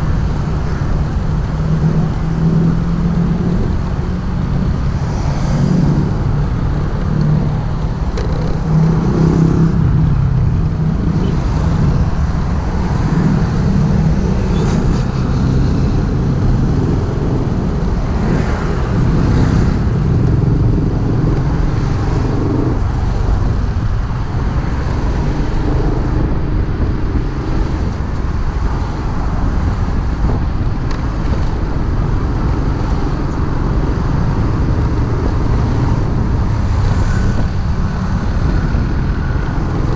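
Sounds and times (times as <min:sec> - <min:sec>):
road noise and traffic: 0:00.0 - 0:39.9.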